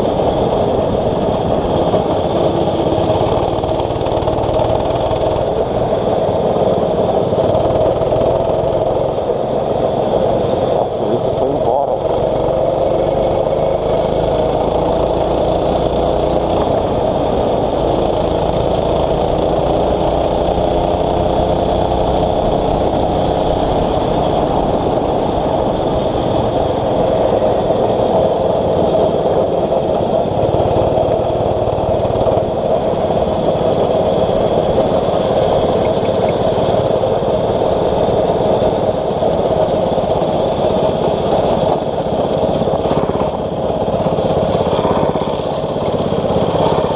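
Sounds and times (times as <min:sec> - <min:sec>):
kart engine running: 0:00.0 - 0:46.9.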